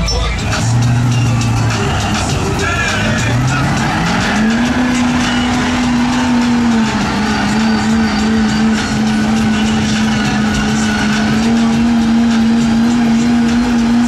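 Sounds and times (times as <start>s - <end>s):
engine revving hard: 0.2s - 14.0s.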